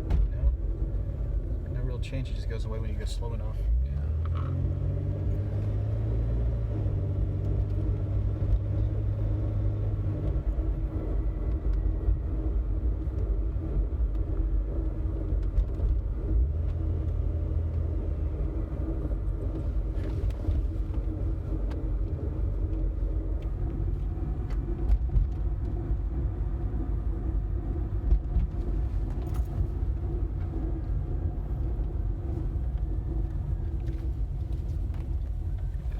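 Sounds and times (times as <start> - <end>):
road and drivetrain rumble: 0.0 - 35.9.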